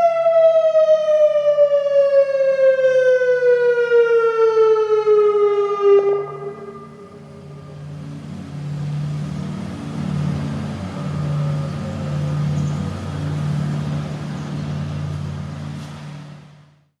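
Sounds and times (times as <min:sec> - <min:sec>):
warning siren winding down: 0:00.0 - 0:15.8.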